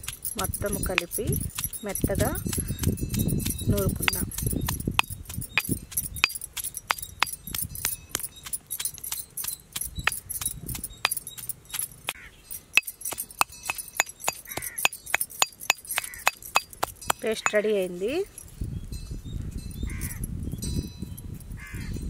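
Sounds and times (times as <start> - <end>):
metal pestle pounding in mortar: 0.0 - 17.7.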